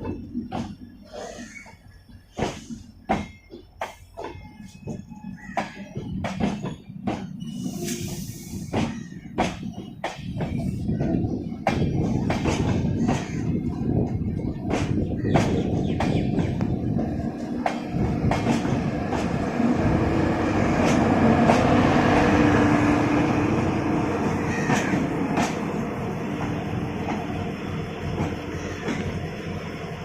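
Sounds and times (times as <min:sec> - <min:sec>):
steady train drone: 0:00.0 - 0:30.0
train wheels clicking over rail joints: 0:00.0 - 0:30.0.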